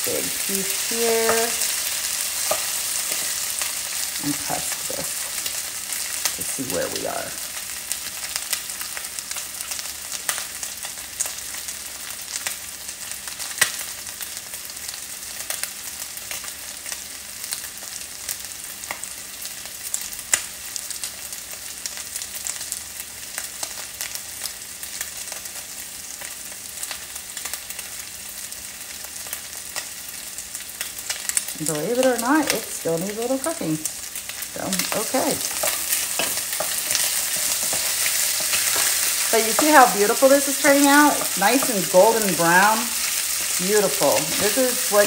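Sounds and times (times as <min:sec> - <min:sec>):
chicken sizzling in frying pan: 0:00.0 - 0:45.0.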